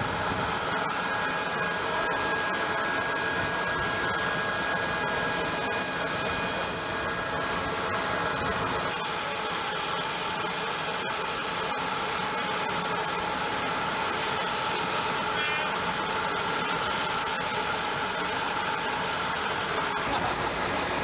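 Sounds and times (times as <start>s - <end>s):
aircraft turbine roaring and whining: 0.0s - 21.0s.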